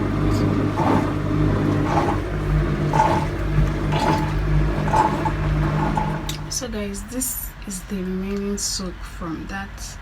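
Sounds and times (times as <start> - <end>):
washing machine hum and rumble: 0.0 - 10.0.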